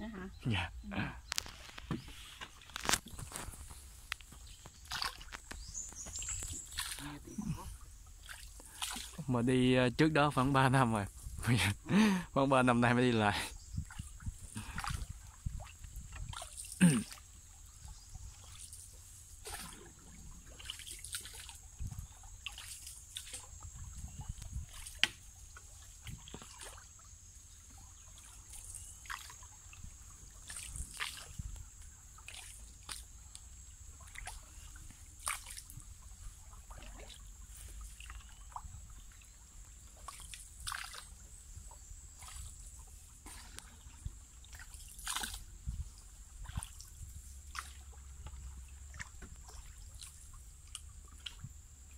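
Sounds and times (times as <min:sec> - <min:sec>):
water dripping from paddle: 0:01.3 - 0:10.8, 0:11.8 - 0:51.9
paddle splashing in water: 0:01.4 - 0:09.5, 0:12.7 - 0:51.9.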